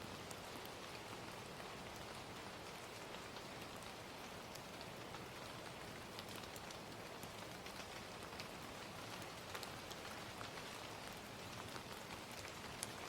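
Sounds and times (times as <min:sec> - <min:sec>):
faint fire crackles: 0:00.0 - 0:13.0
gentle rain: 0:00.0 - 0:13.0.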